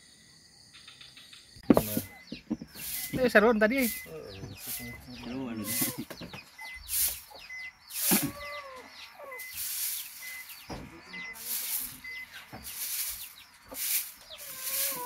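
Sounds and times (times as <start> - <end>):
small birds chirping: 0.0 - 15.0
chickens calling: 1.6 - 15.0.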